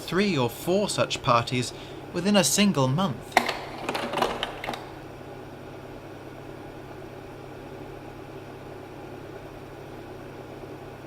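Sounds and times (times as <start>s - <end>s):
projector fan humming: 0.0s - 11.0s.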